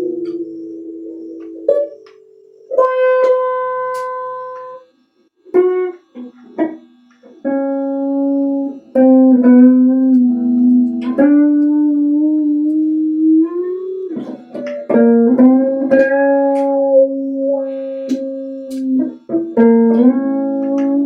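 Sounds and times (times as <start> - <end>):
slow plucked guitar: 0.0 - 21.0.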